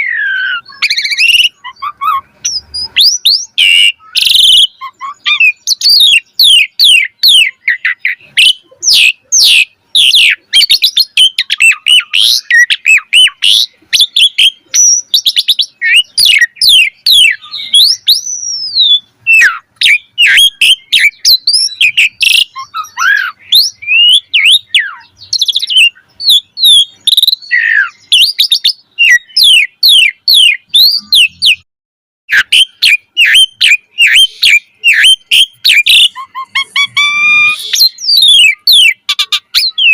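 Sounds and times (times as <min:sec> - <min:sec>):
starling singing: 0:00.0 - 0:31.7, 0:32.3 - 0:39.9.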